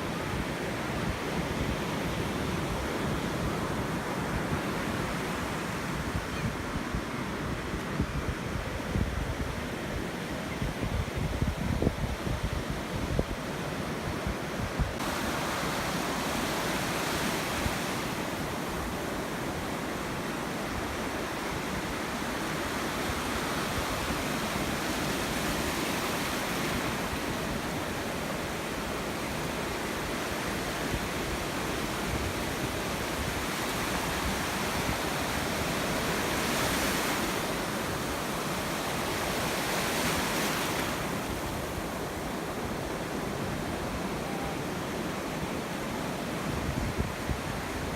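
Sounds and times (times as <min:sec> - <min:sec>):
ocean waves on shore: 0:00.0 - 0:47.9.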